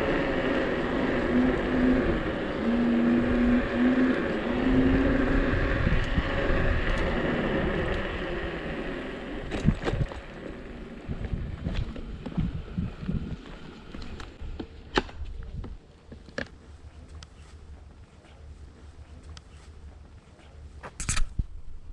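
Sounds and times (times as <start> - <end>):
electric scooter motor whine: 0.0 - 20.2
tyre noise: 0.0 - 21.6.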